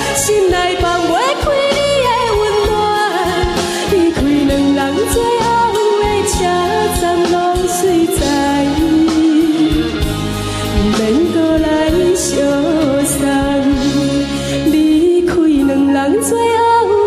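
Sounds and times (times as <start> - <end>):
instrumental accompaniment with beat: 0.0 - 16.0
woman singing pop ballad: 0.0 - 17.0.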